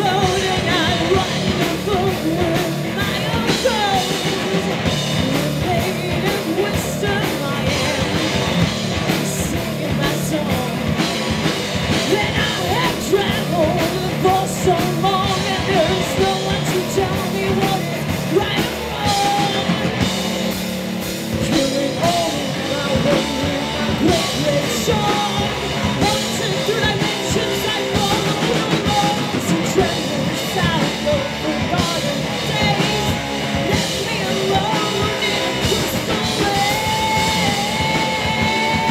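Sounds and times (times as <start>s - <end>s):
bass guitar: 0.0s - 38.9s
distorted electric guitars: 0.0s - 38.9s
drum kit: 0.0s - 38.9s.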